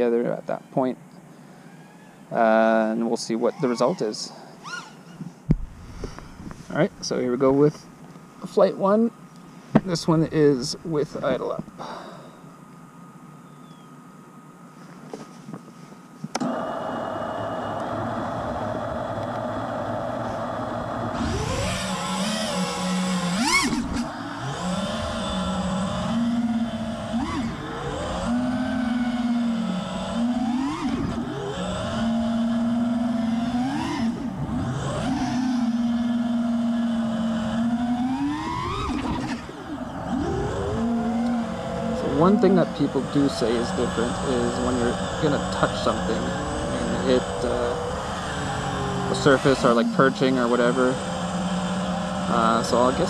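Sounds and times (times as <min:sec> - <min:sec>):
drone motors whining: 0:00.0 - 0:14.7, 0:16.2 - 0:53.0.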